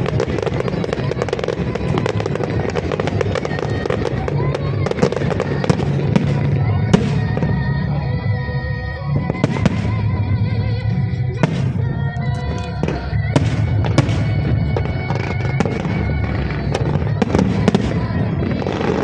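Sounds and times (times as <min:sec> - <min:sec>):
firework bangs and crackles: 0:00.0 - 0:19.0
low rumble of explosions: 0:00.0 - 0:19.0
music playing: 0:00.0 - 0:19.0.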